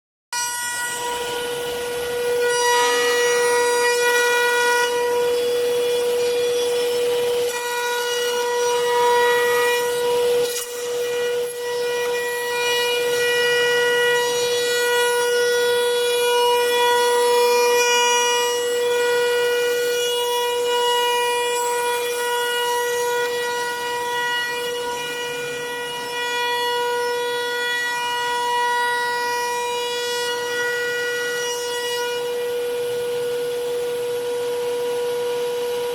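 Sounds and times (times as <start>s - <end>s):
wood lathe high whine: 0.4s - 35.9s.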